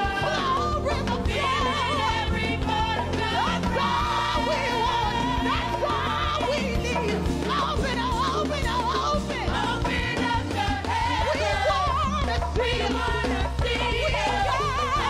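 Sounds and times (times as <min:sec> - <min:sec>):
singers with vibrato: 0:00.0 - 0:15.0.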